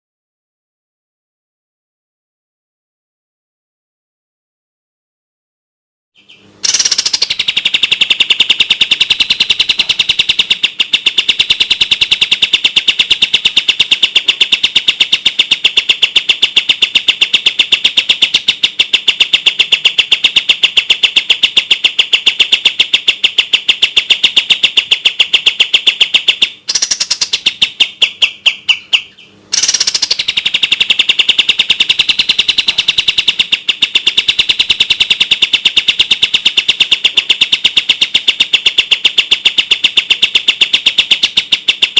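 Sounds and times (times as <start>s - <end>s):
bird singing rapid sharp notes: 6.2s - 41.9s.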